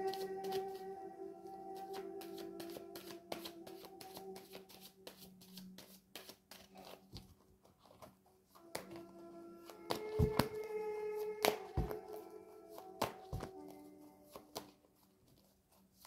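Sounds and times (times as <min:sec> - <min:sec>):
ambient background music: 0:00.0 - 0:07.3, 0:08.5 - 0:15.4
cards being shuffled: 0:01.8 - 0:16.0.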